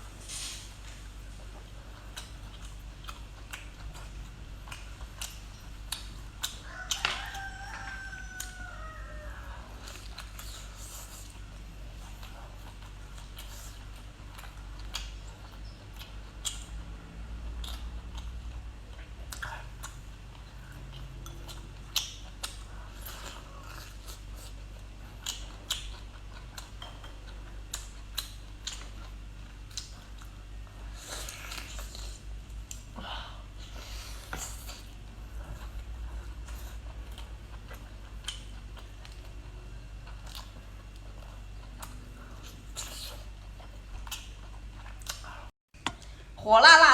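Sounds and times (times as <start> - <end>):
person chewing food: 0.0 - 46.4
steady low hum: 0.0 - 46.9.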